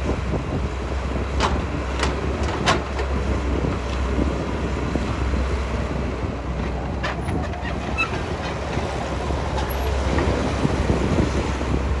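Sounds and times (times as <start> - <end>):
diesel machinery rumbling: 0.0 - 12.0.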